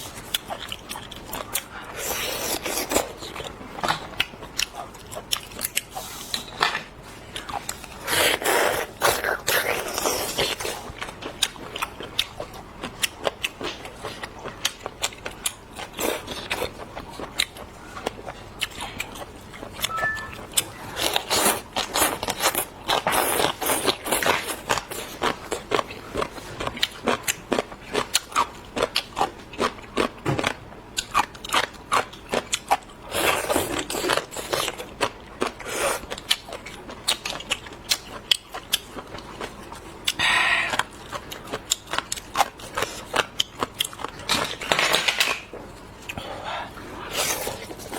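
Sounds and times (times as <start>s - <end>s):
chewing and crunching seafood: 0.0s - 47.9s.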